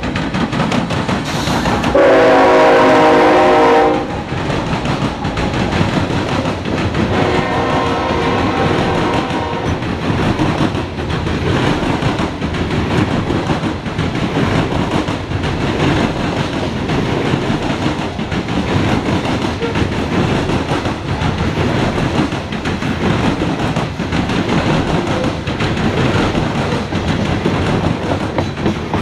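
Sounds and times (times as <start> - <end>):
train wheels rumbling on rails: 0.0 - 29.0
wheels clickety-clack: 0.0 - 29.0.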